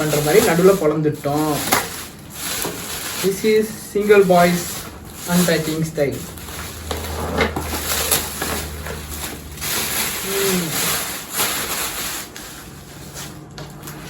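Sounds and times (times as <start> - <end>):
cardboard rustling and scraping: 0.0 - 14.0.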